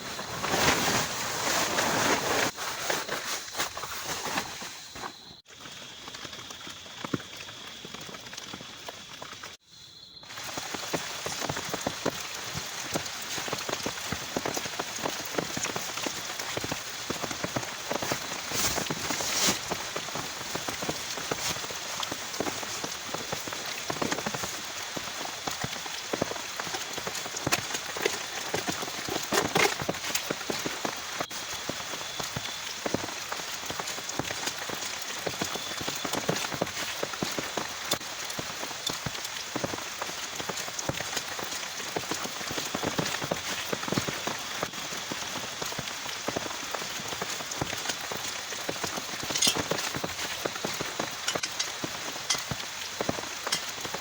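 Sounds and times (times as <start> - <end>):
raindrops tapping a surface: 10.3 - 54.0.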